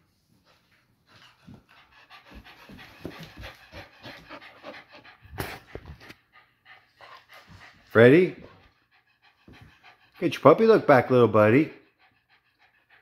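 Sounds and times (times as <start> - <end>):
dog panting: 0.3 - 13.0.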